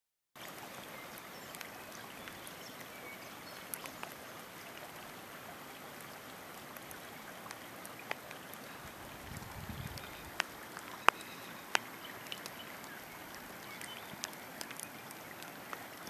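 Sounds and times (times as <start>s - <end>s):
rain hissing on water: 0.4s - 16.0s.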